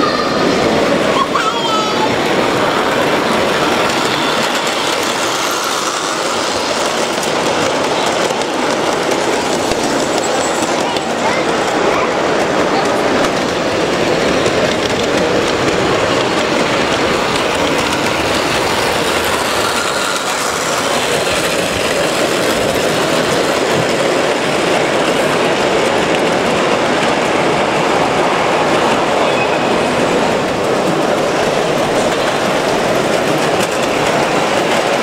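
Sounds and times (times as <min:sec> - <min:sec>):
train wheels rumbling: 0:00.0 - 0:35.0
wheels clickety-clack: 0:01.2 - 0:35.0.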